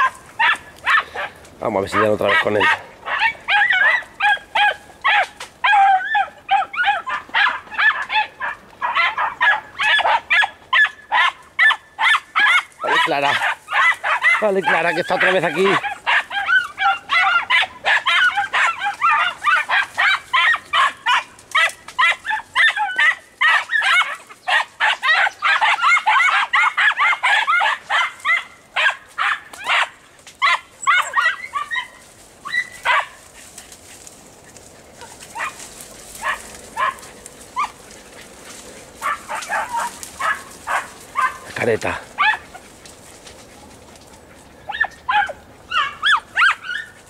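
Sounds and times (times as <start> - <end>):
hounds yelping: 0.0 - 47.0.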